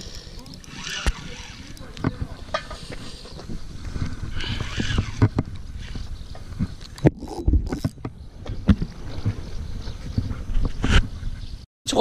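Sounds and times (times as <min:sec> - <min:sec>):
wind rumbling on microphone: 0:00.8 - 0:11.6.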